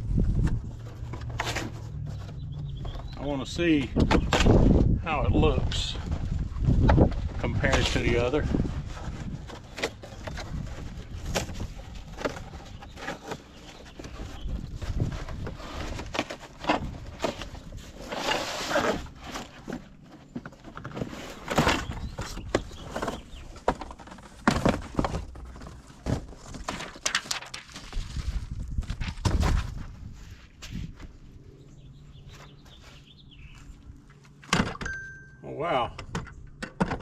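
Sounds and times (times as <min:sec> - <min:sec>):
rustling and scraping: 0:00.0 - 0:34.8.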